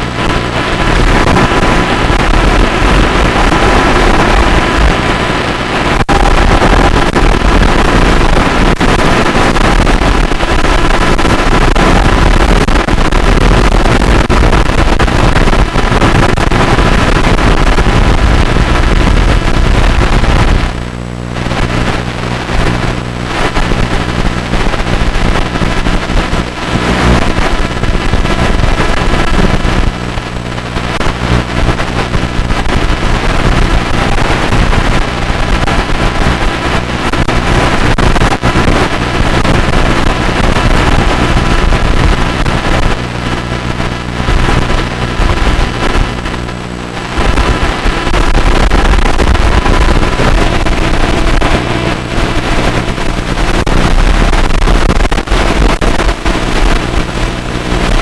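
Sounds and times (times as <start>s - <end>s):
buzzing hum: 0.0s - 58.0s.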